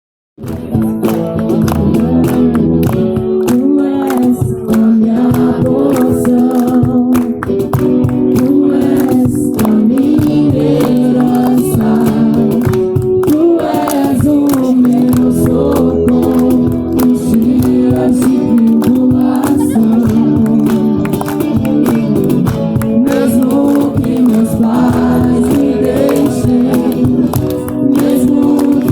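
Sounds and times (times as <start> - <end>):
group singing praise song: 0.4 - 28.9
instrumental accompaniment with beat: 0.4 - 28.9
sharp taps or claps: 0.4 - 28.9.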